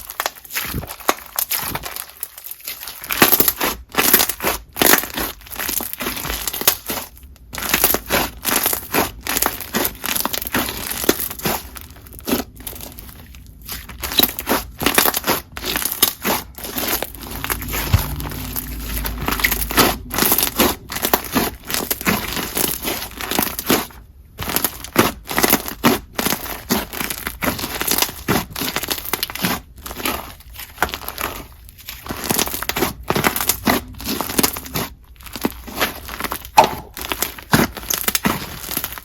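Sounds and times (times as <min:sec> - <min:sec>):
slime squished by hand: 0:00.0 - 0:39.0.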